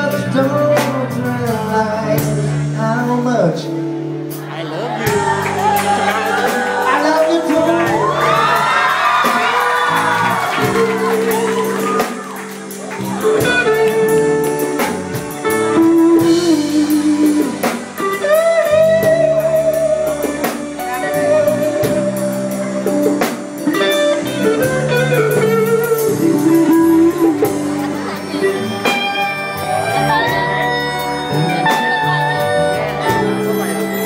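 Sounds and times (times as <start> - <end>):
live band playing: 0.0 - 34.0
lead line with bending notes: 4.5 - 34.0.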